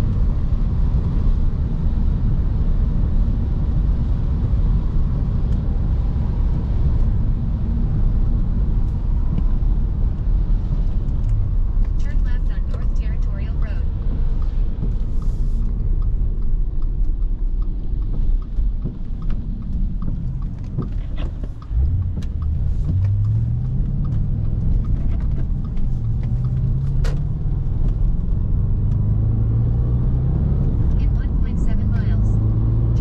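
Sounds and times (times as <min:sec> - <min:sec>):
car engine rumble: 0:00.0 - 0:33.0
road noise: 0:00.0 - 0:33.0.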